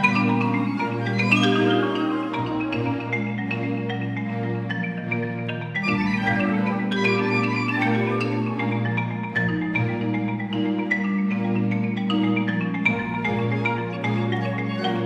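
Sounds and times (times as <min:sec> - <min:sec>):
solo marimba: 0:00.0 - 0:15.0
symphony orchestra: 0:00.0 - 0:15.0.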